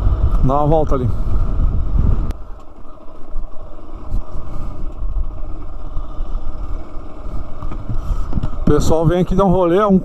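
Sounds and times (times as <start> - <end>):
motorcycle running: 0.0 - 10.0
wind noise on microphone: 0.0 - 10.0.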